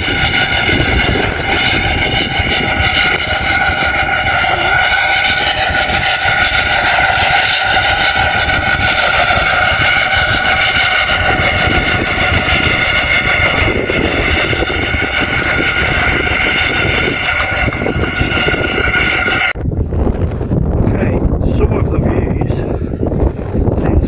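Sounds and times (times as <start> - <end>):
rack locomotive droning whine: 0.0 - 19.7.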